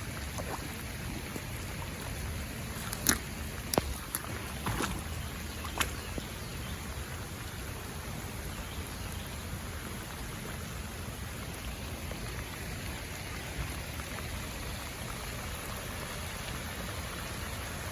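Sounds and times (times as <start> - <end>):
runoff water running over ground: 0.0 - 17.9.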